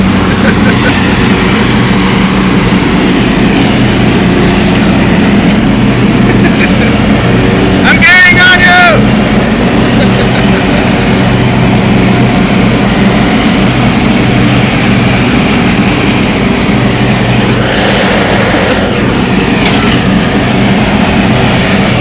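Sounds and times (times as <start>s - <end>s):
riding lawn mower cutting grass: 0.0s - 22.0s.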